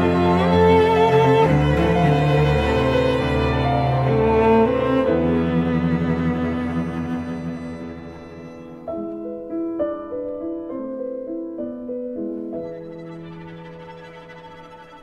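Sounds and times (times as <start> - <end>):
piano quartet playing slowly: 0.0 - 15.0.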